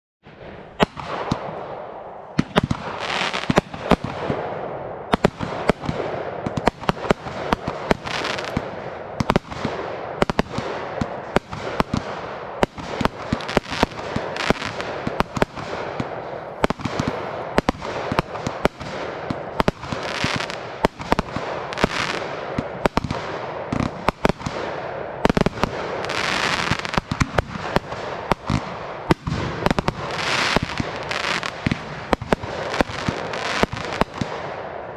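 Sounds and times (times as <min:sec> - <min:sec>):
firework bangs: 0:00.2 - 0:34.9
fireworks hissing and crackling: 0:02.4 - 0:04.3, 0:05.1 - 0:34.7.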